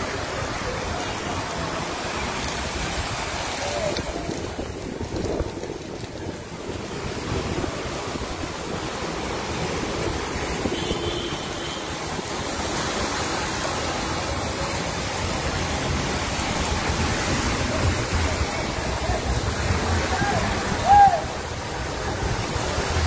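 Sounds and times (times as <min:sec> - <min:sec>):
floodwater rushing: 0:00.0 - 0:23.0
vehicle splashing through water: 0:00.0 - 0:23.0.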